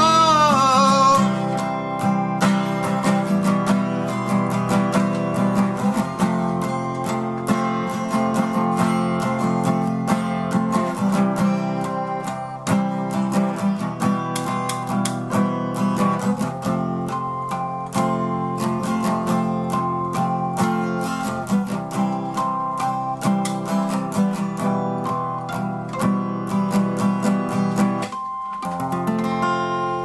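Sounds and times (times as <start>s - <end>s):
acoustic guitars strumming: 0.0s - 30.0s.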